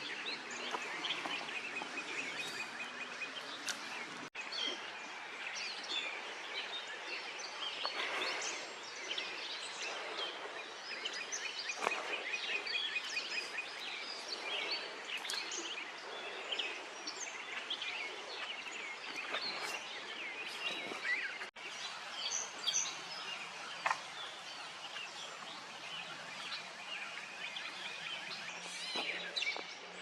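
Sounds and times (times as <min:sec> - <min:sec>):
small birds chirping: 0:00.0 - 0:30.0
steady outdoor hiss: 0:00.0 - 0:30.0.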